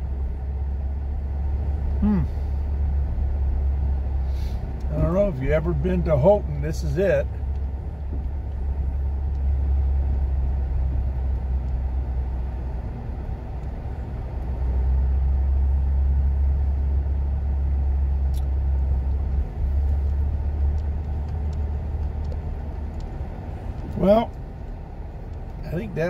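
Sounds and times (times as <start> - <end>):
car interior road and engine noise: 0.0 - 26.0.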